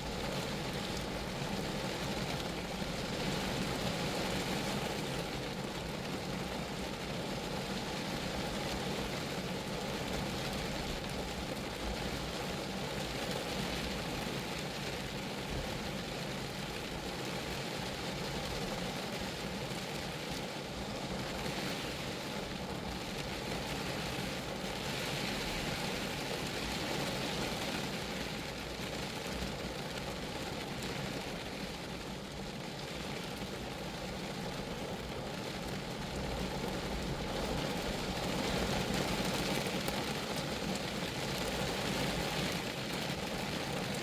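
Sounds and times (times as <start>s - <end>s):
rain on a car body: 0.0s - 44.0s.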